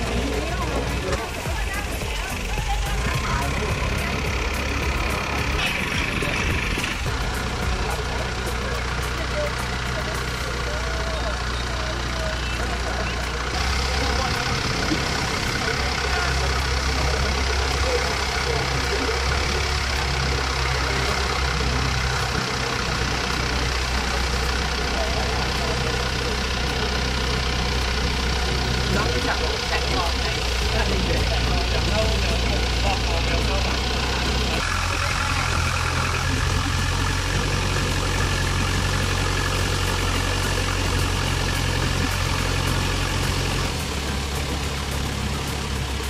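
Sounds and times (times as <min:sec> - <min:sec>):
boat engine running: 0:00.0 - 0:46.0
wind: 0:00.0 - 0:46.0.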